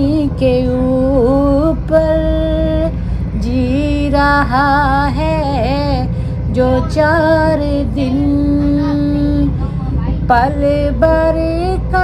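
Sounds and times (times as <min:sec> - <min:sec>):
person singing a slow melody: 0:00.0 - 0:09.7
train rumbling: 0:00.0 - 0:12.0.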